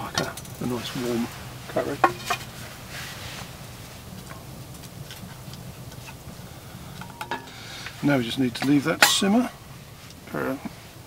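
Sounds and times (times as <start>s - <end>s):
curry simmering with pops: 0.1s - 10.3s.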